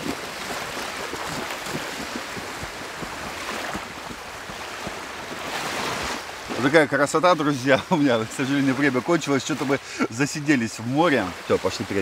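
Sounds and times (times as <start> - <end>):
person wading through water: 0.0 - 10.2
small waves lapping on shore: 0.0 - 12.0.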